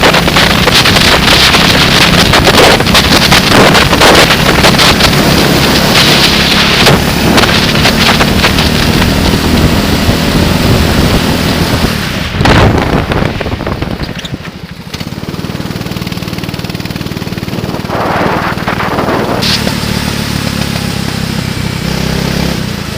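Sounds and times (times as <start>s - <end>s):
wind buffeting microphone: 0.0s - 19.8s
engine humming: 0.0s - 22.9s.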